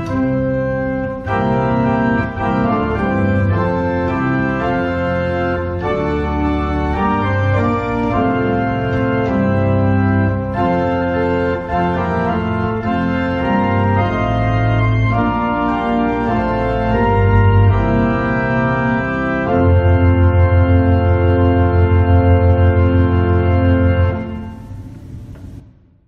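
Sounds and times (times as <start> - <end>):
church organ playing a hymn: 0.0 - 25.6.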